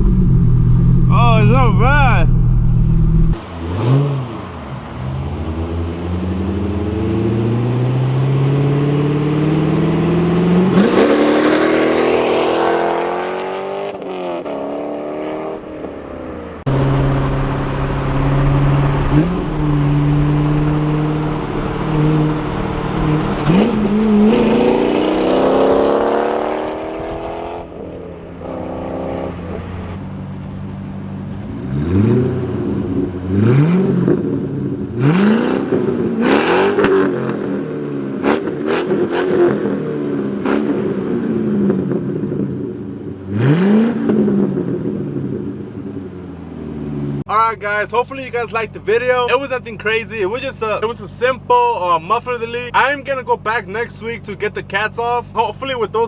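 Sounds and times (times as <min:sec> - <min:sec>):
car engine revving: 0:00.0 - 0:30.6, 0:31.2 - 0:56.0.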